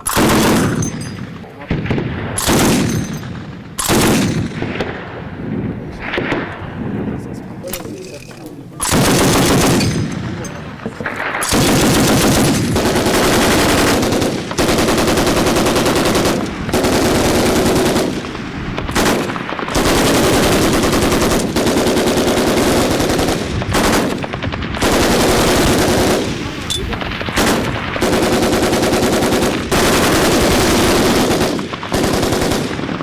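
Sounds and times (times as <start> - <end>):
machine-gun fire bursts: 0.0 - 5.3, 8.8 - 33.0.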